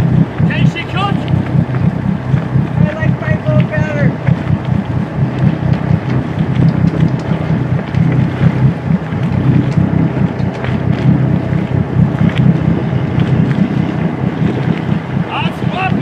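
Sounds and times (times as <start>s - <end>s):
faint boat ticks: 0.0s - 16.0s
wind buffeting microphone: 0.0s - 16.0s.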